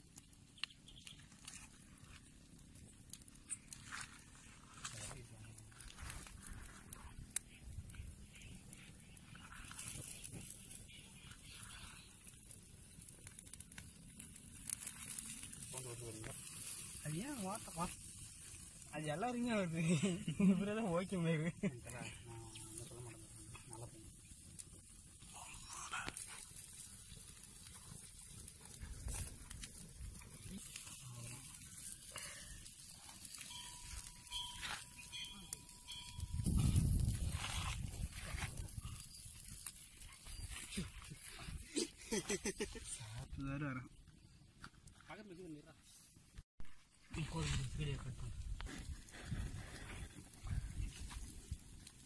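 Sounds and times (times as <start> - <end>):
fish sizzling over wood fire: 0.0 - 52.0.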